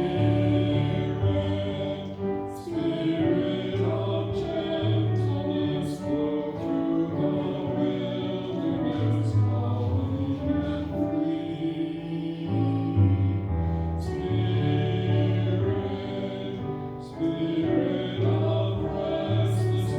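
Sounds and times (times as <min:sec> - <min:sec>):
voices singing a hymn: 0:00.0 - 0:19.9.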